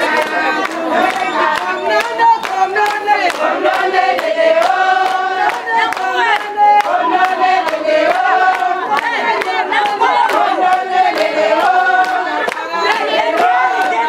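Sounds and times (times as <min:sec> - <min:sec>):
group singing together: 0:00.0 - 0:14.0.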